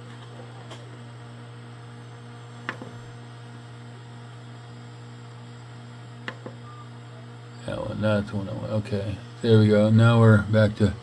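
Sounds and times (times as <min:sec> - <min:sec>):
electrical mains hum: 0:00.0 - 0:11.0
faint pulsing tone: 0:01.0 - 0:10.8.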